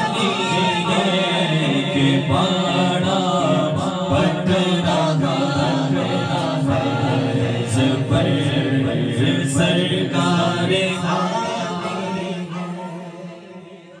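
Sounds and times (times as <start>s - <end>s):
men singing without instruments: 0.0s - 14.0s.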